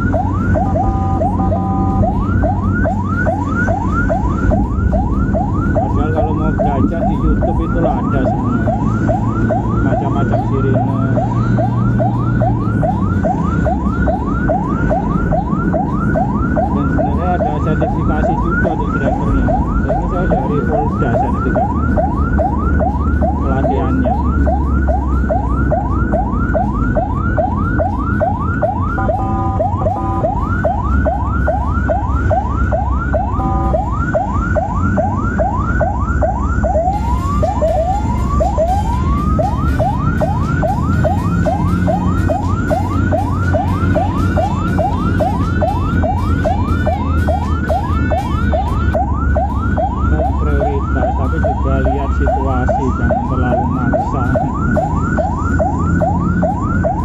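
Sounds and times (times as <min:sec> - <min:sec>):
ambulance siren yelping: 0:00.0 - 0:57.0
engine and road noise: 0:00.0 - 0:57.0.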